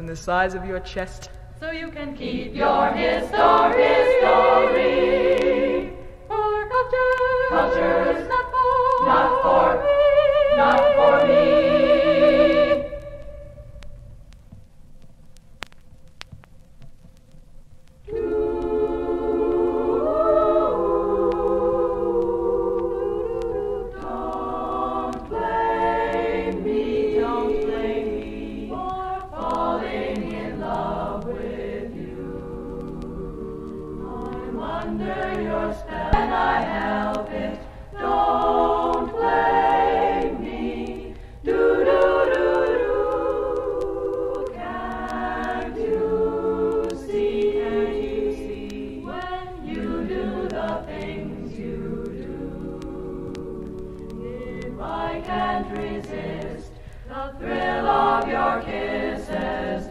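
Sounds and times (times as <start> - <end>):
women singing close harmony: 1.6 - 13.6, 18.1 - 59.9.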